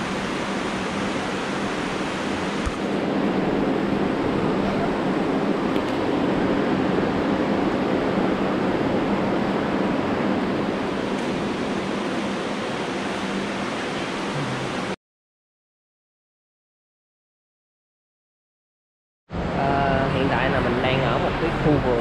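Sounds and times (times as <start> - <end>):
steady rushing noise: 0.0 - 15.0, 19.3 - 22.0.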